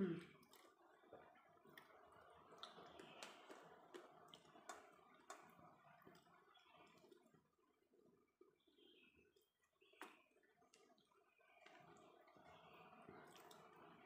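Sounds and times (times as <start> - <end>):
soft chewing clicks: 0.0 - 14.0.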